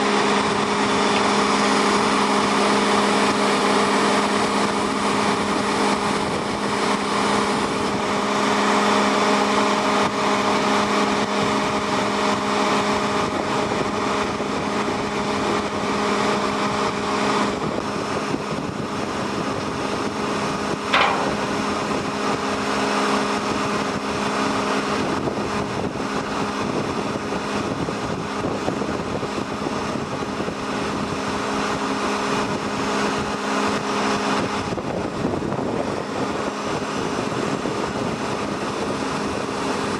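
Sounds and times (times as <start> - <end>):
engine droning hum: 0.0 - 39.9.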